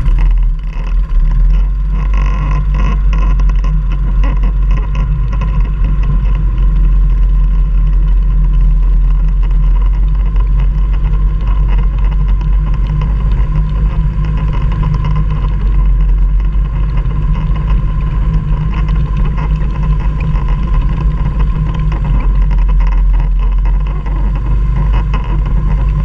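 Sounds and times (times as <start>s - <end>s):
quad engine running: 0.0s - 26.0s
small clicks and rattles: 0.0s - 26.0s.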